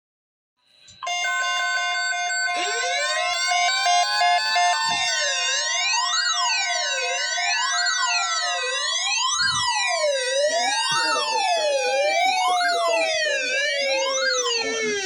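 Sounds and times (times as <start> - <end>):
steady electronic tones: 0.9 - 15.0
electronic siren effect: 1.0 - 15.0.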